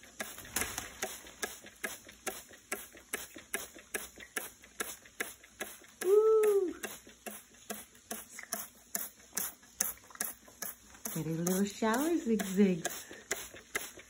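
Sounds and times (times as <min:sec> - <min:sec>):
spray bottle spritzing: 0:00.0 - 0:14.0.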